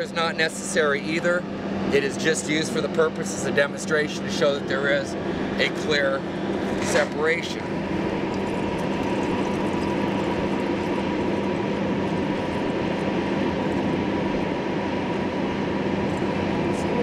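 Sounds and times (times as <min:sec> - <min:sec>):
steady motor drone: 0:00.0 - 0:17.0.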